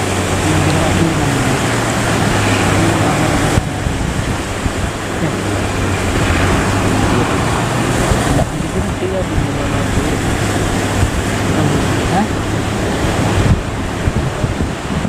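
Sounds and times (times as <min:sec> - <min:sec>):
boat engine humming: 0:00.0 - 0:15.0
loud wind: 0:00.0 - 0:15.0
rushing sea water: 0:00.0 - 0:15.0.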